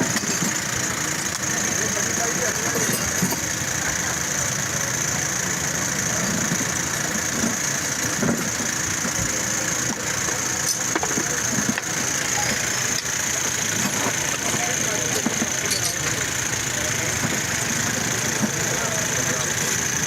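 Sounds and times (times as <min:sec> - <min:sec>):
motor running: 0:00.0 - 0:20.0.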